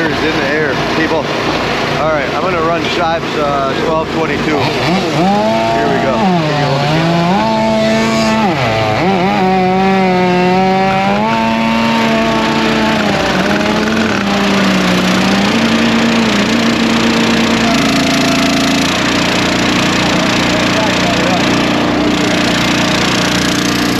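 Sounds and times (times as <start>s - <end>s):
small gasoline engine running: 0.0s - 23.9s.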